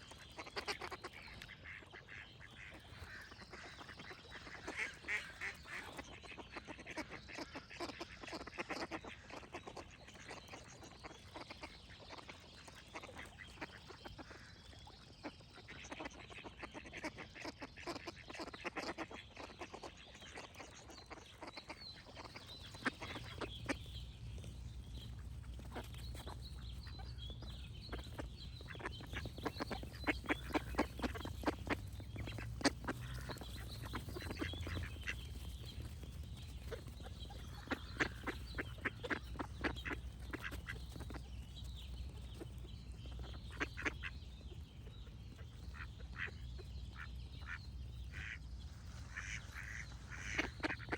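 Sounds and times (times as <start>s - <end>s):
ducks quacking: 0.0s - 50.9s
small birds singing faintly: 0.0s - 50.9s.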